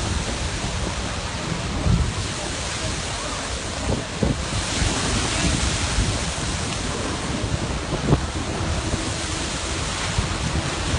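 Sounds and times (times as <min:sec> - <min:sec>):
surf churning: 0:00.0 - 0:10.9
wind buffeting microphone: 0:00.0 - 0:10.9.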